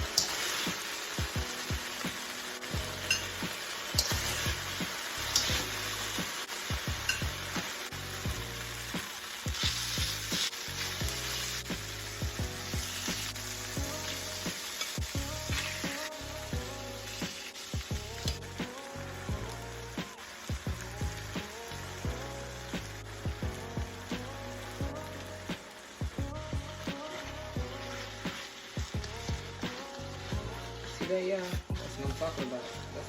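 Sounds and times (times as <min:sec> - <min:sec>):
meat sizzling in hot oil: 0:00.0 - 0:33.0.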